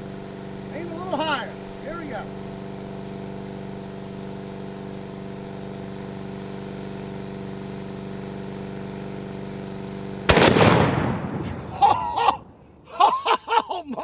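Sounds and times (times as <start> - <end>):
lawn mower engine running: 0.0 - 13.2.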